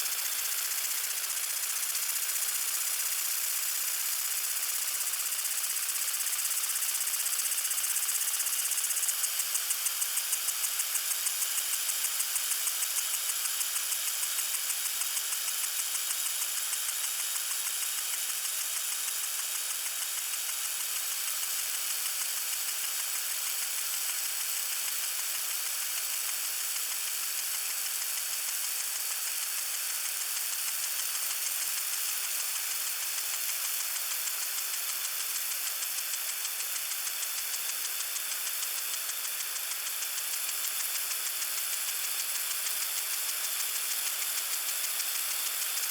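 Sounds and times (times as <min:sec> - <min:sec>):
lawn sprinkler spraying water: 0:00.0 - 0:45.9.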